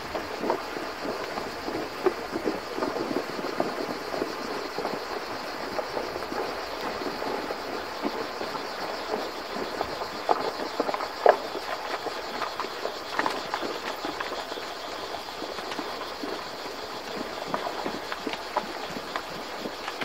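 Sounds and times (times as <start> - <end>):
hooves splashing in water: 0.0 - 20.0.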